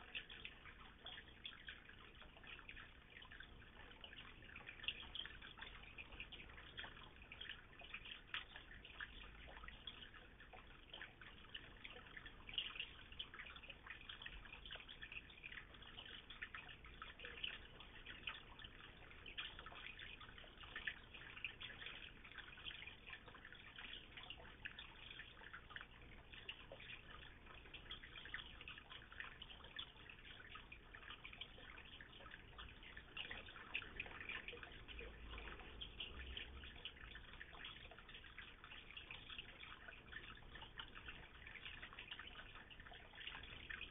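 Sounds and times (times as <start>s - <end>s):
water trickling into a pond: 0.0s - 43.9s.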